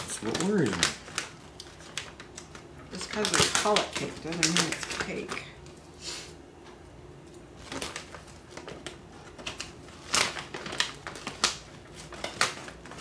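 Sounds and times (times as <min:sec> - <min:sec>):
plastic packaging crackling: 0:00.0 - 0:05.8, 0:07.4 - 0:13.0.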